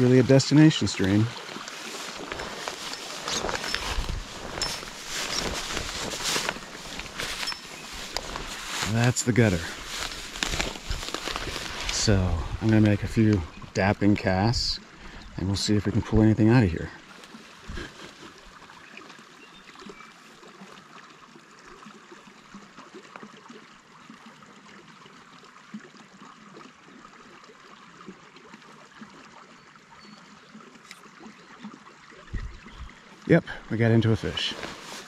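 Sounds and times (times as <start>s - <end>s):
creek trickling: 0.0s - 35.0s.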